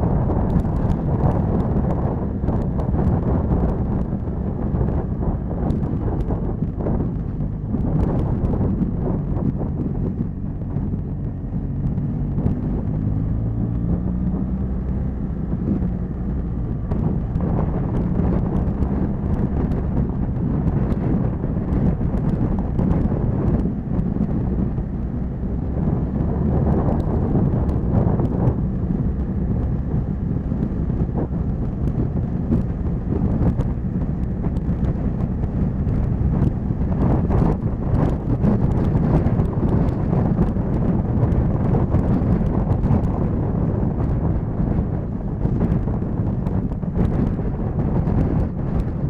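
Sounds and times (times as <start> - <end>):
motorcycle engine running: 0.0 - 49.0
wind rumbling on microphone: 0.0 - 49.0.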